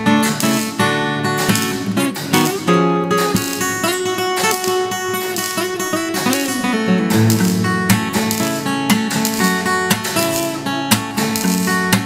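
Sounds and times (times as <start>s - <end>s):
solo acoustic guitar: 0.0s - 12.0s.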